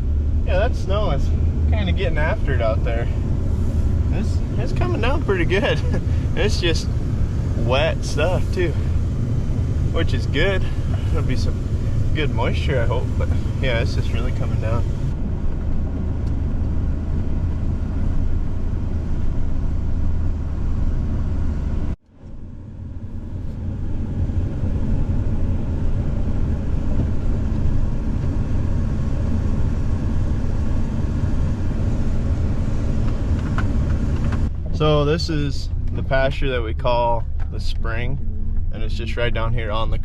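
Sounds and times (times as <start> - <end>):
vehicle engine and road hum: 0.0 - 40.0.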